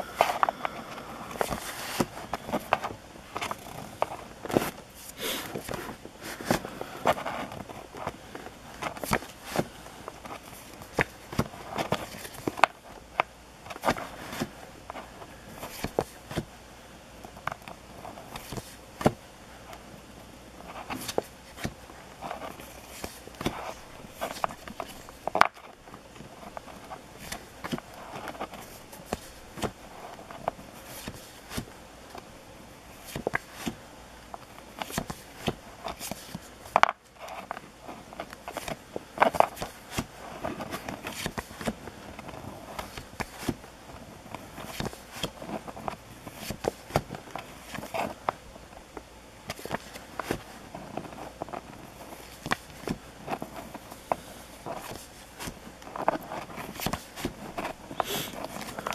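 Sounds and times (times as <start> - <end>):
paper rustling: 0.1 - 12.8, 20.7 - 31.7, 34.4 - 48.4, 49.5 - 58.9.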